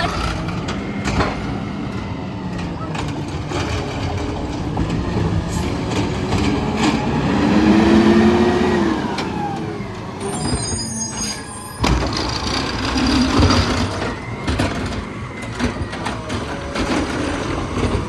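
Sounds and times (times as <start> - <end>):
garbage truck engine running: 0.0 - 18.0.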